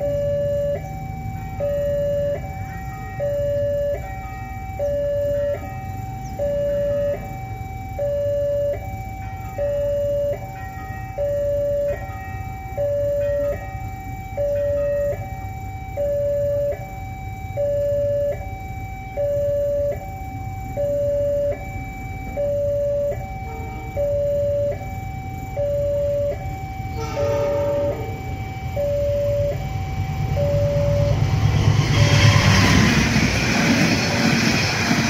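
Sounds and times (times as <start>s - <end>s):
two-tone crossing alarm: 0.0s - 35.0s.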